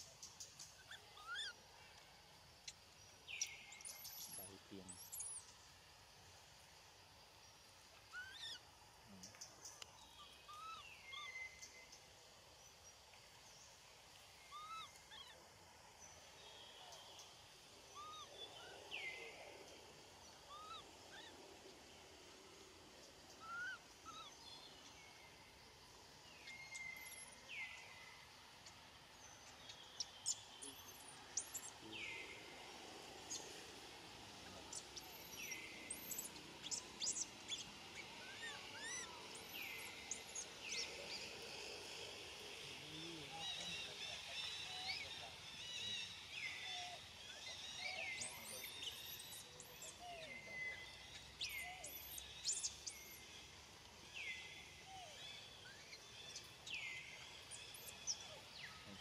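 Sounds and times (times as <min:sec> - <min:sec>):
birds chirping: 0:02.6 - 0:06.0, 0:07.4 - 0:59.0.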